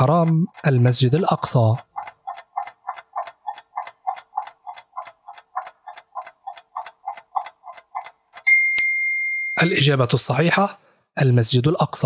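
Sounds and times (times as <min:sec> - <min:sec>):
timer ticking: 0:00.0 - 0:09.9.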